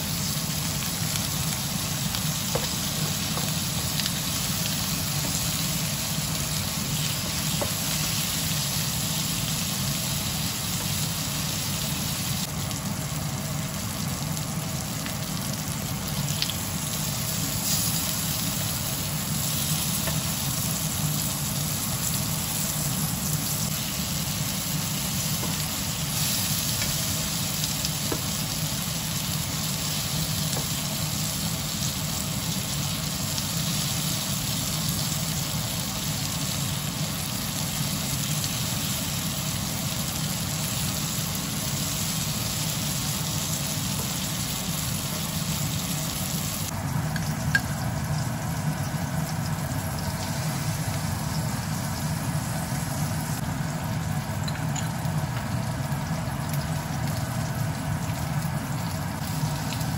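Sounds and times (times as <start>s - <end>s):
pork sizzling in a pan: 0.0s - 59.9s.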